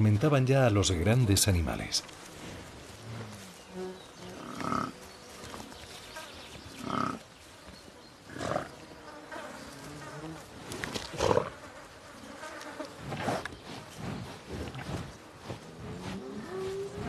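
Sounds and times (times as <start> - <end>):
flies buzzing: 2.0 - 17.0.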